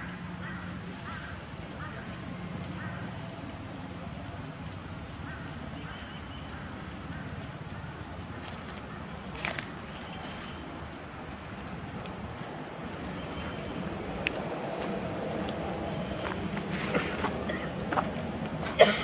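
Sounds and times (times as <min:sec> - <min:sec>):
steady high buzz: 0:00.0 - 0:19.0.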